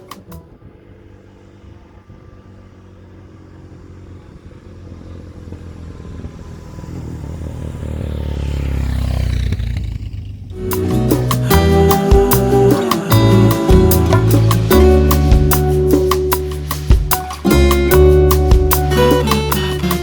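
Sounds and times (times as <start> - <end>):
motorcycle engine approaching: 0.0 - 20.0.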